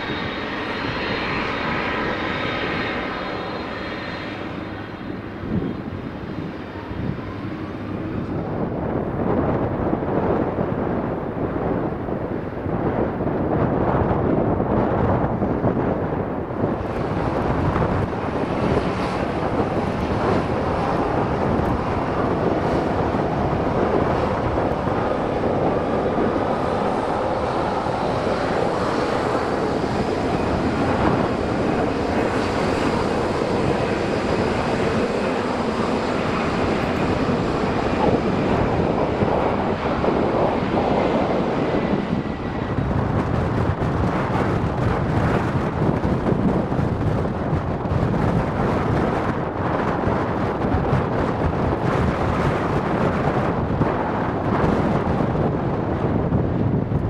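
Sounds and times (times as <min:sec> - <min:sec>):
high engine whine: 0:00.0 - 0:57.0
jet engine roar: 0:00.0 - 0:57.0.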